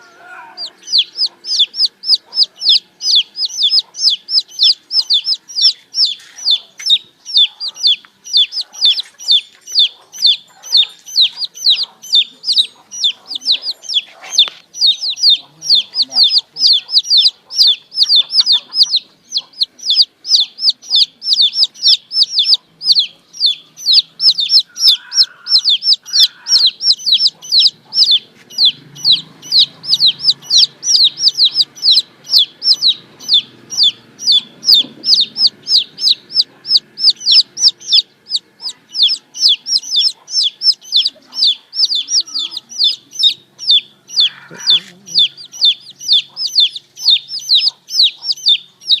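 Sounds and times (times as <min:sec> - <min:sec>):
chicks peeping: 0:00.0 - 0:49.0.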